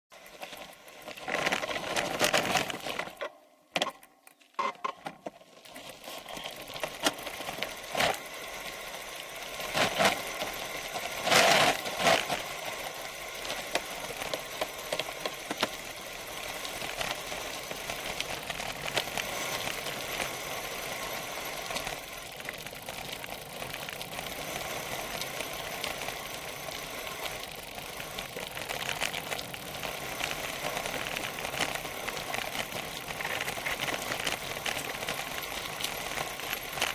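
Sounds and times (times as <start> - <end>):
bike rattling: 0.1 - 36.9
bike jolts from bumps: 0.2 - 4.0, 5.1 - 36.9
tyres crunching over gravel: 0.2 - 36.9.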